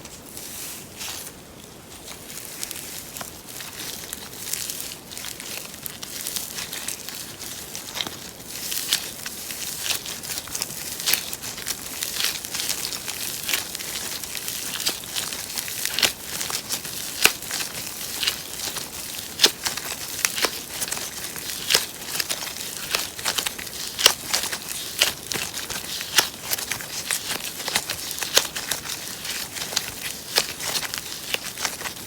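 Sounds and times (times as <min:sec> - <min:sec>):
slime crackling and popping: 0:02.6 - 0:32.0.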